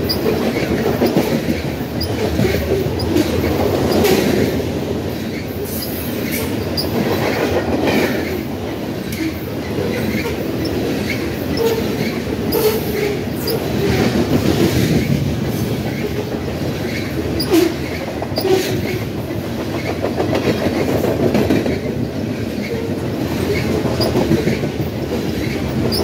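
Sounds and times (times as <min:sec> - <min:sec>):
steel wheels rumbling on rail: 0:00.0 - 0:26.0
wheels clicking over rail joints: 0:00.0 - 0:26.0.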